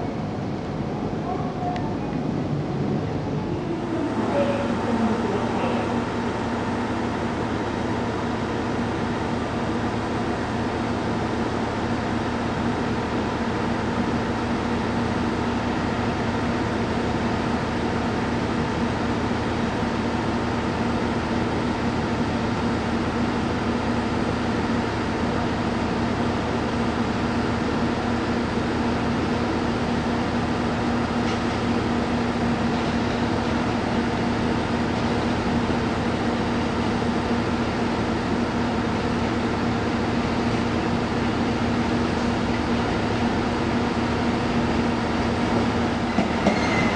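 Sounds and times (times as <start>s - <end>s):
diesel railcar engine droning: 0.0s - 46.9s.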